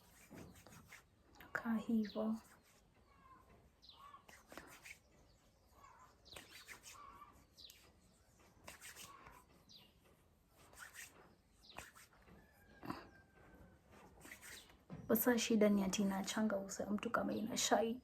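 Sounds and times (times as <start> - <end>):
soft chirp-like sounds: 0.0 - 18.0.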